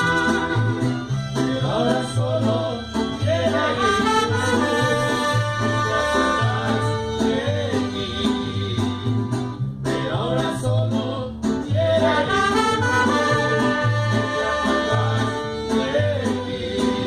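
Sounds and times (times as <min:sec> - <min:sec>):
mariachi band playing: 0:00.0 - 0:17.0
person singing: 0:01.4 - 0:09.2, 0:10.0 - 0:17.0.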